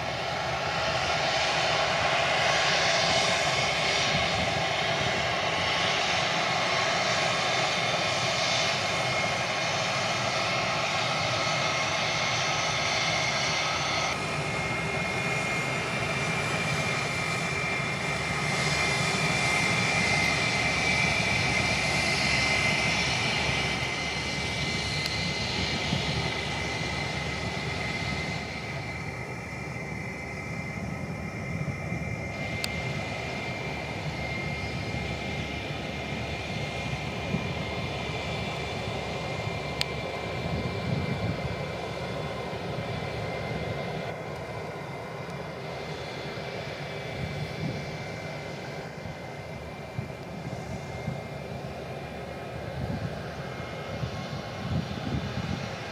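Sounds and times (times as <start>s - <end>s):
jet engines whining: 0.0s - 55.9s.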